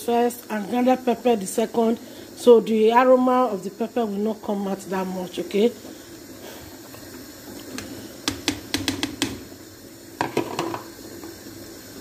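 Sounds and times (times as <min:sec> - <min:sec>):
pot simmering hiss: 0:00.0 - 0:12.0.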